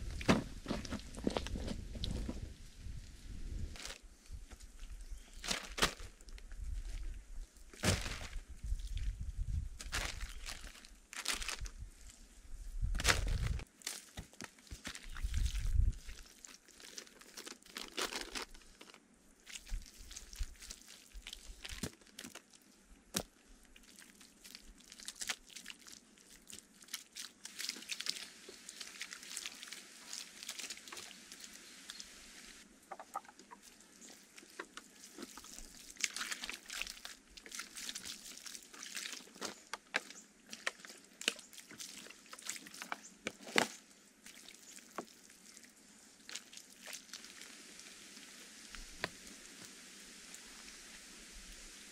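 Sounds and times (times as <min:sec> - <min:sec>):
wet mud squelching and patting: 0:04.6 - 0:12.2, 0:12.9 - 0:32.0, 0:32.9 - 0:50.5.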